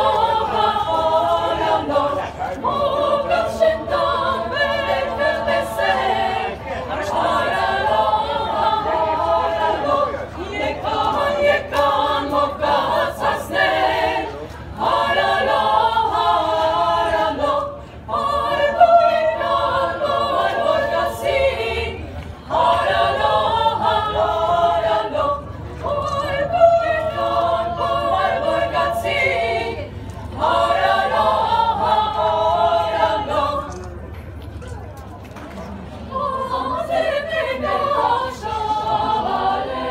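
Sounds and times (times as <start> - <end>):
choir singing a cappella: 0.0 - 33.9, 36.0 - 39.9.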